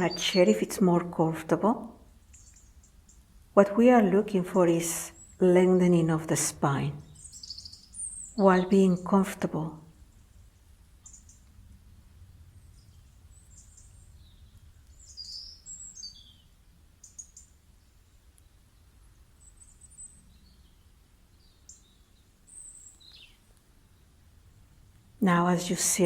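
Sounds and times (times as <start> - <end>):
birds chirping: 0.0 - 10.4, 12.6 - 24.2
low steady hum: 0.0 - 26.0.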